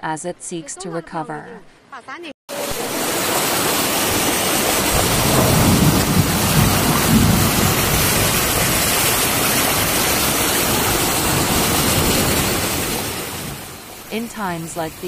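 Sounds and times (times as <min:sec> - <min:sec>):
floodwater running: 0:02.5 - 0:15.0
heavy rain pouring: 0:02.5 - 0:15.0.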